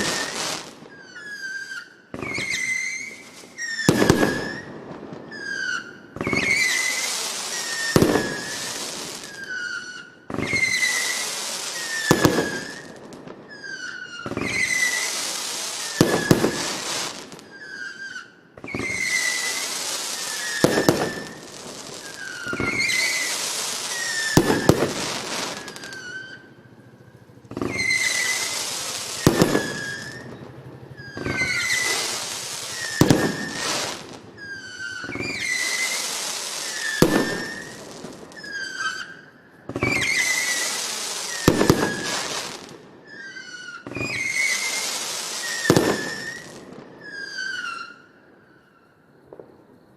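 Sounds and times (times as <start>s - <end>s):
firework bang: 0.0s - 1.1s, 2.1s - 13.6s, 14.2s - 17.8s, 18.6s - 26.6s, 27.4s - 38.6s, 39.7s - 42.8s, 43.8s - 47.1s
firework hissing and crackling: 0.0s - 48.0s
firework whistles: 0.0s - 49.9s.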